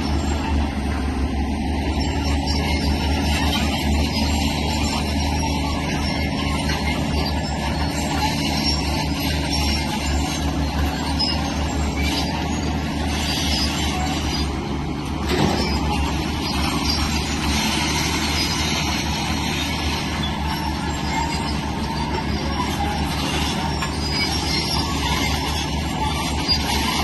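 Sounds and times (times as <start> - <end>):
bulldozer diesel engine rumble: 0.0 - 27.0
steel tracks grinding and scraping: 0.0 - 27.0.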